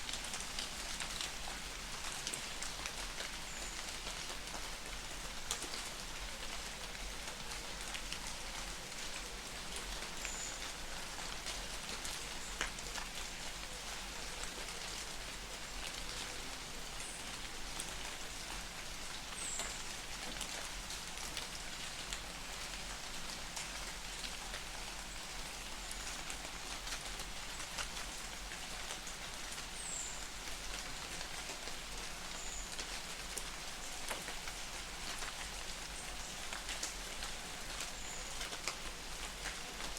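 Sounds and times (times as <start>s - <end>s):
raindrops ticking on leaves: 0.0s - 39.9s
steady rain hiss: 0.0s - 39.9s.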